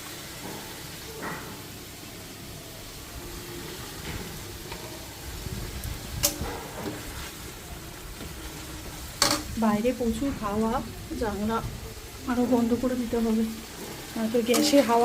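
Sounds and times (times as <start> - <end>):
paste sizzling in oil: 0.0 - 15.0.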